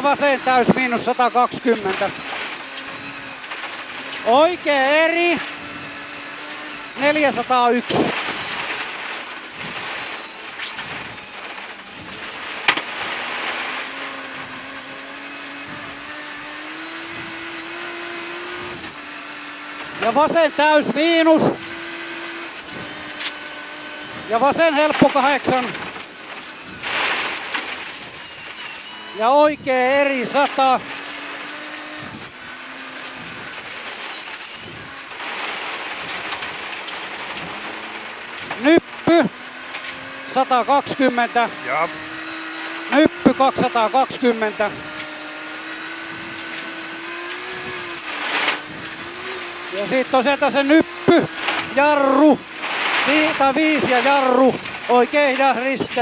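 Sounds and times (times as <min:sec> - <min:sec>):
rally car engine running hard: 0:00.0 - 0:56.0
tyre and gravel noise: 0:00.0 - 0:56.0.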